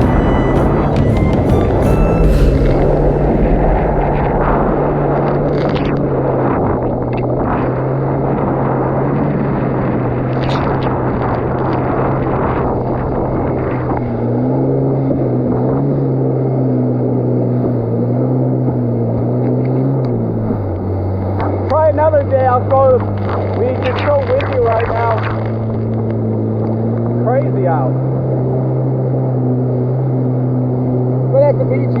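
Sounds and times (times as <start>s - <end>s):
water and wind rush: 0.0s - 26.9s
jet ski engine cruising: 0.0s - 32.0s.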